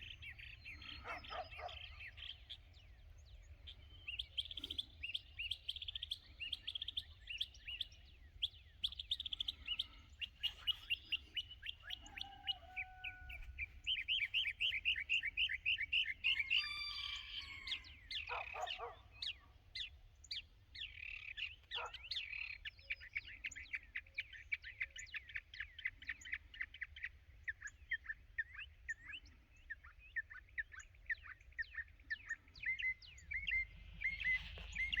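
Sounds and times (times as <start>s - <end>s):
birds chirping and trilling: 0.0s - 35.0s.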